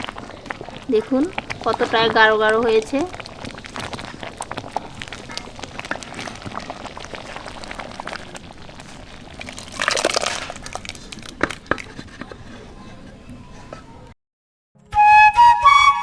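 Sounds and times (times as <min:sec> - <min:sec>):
food crackling and popping: 0:00.0 - 0:14.2.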